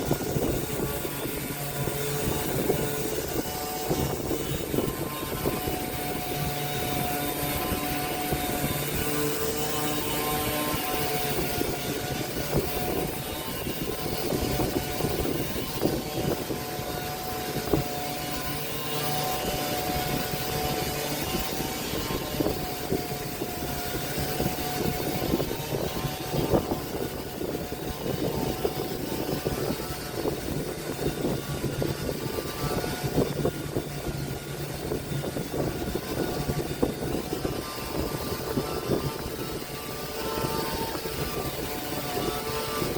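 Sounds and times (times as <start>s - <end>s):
power tool motor whine: 0.0s - 42.9s.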